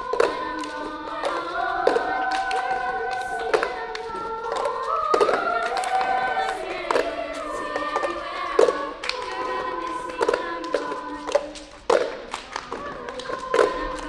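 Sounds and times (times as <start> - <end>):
children's choir singing: 0.0 - 14.0
hand claps: 0.0 - 14.0.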